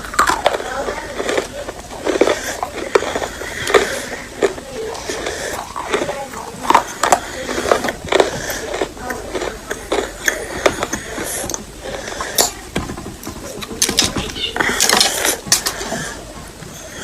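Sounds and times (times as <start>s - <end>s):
chalk being bitten and chewed: 0.0s - 16.1s.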